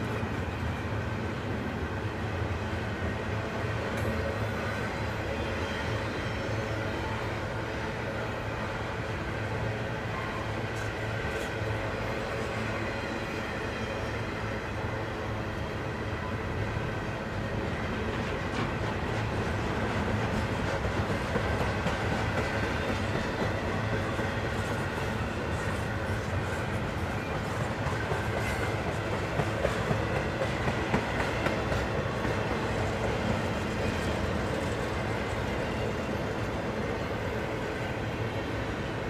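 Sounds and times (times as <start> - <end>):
train wheels rolling on rails: 0.0 - 39.0.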